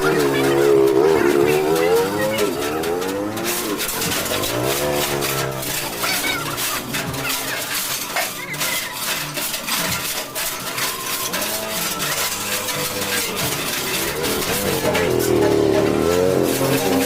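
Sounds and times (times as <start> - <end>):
chain clicking through pulley: 0.0 - 17.0.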